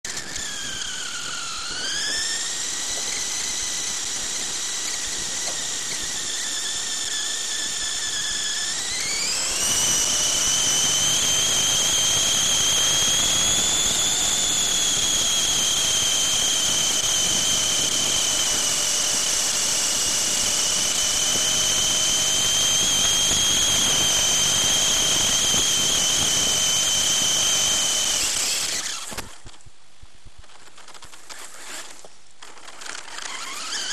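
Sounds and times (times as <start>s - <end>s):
high-pitched motor whine: 0.1s - 29.7s, 30.4s - 33.9s.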